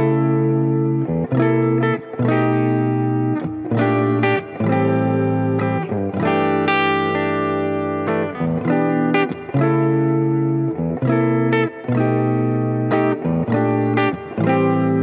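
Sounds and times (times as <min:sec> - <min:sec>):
electric guitar chords: 0:00.0 - 0:15.0.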